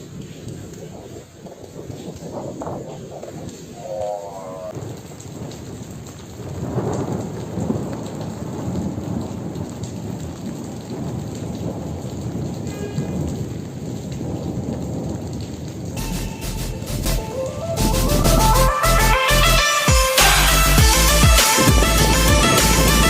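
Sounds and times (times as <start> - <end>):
thunder rumbling: 0.0 - 19.6, 20.2 - 23.0
heavy rain pouring: 0.0 - 23.0.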